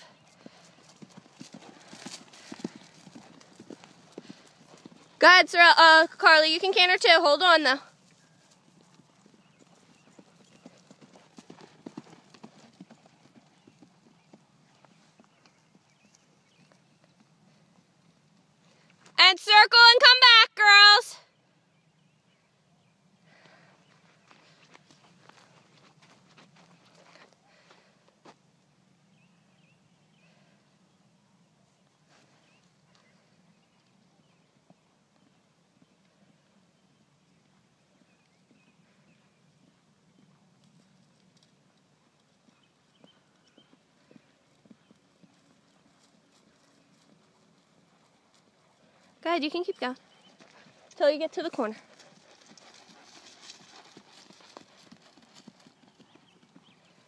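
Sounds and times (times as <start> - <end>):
hoofbeats on dirt track: 0.0 - 20.1, 23.2 - 30.8, 31.8 - 57.0.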